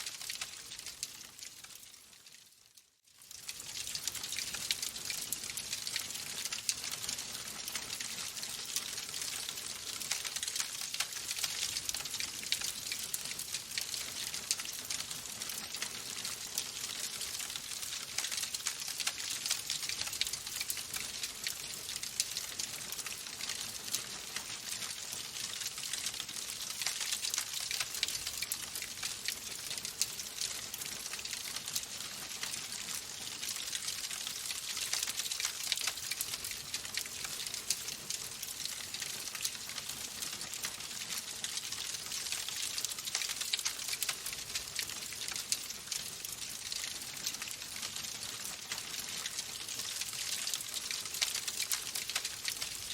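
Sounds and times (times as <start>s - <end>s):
wood fire crackling: 0.0s - 2.4s, 3.1s - 52.9s.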